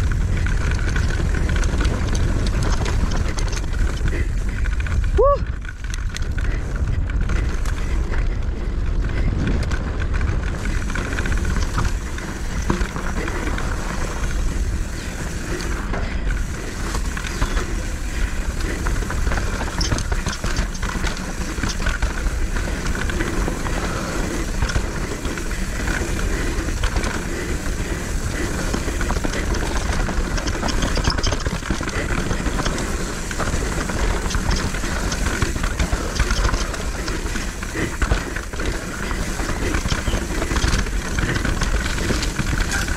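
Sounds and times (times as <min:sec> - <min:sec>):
bike rattling and clattering: 0:00.0 - 0:42.9
tyres on loose ground: 0:00.0 - 0:42.9
wind buffeting microphone: 0:00.0 - 0:42.9.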